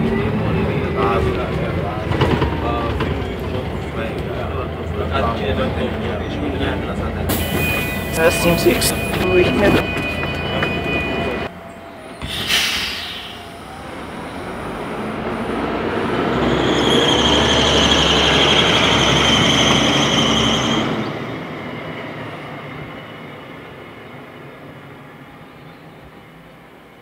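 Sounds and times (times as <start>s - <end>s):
vehicle drivetrain whining: 0.0s - 26.1s.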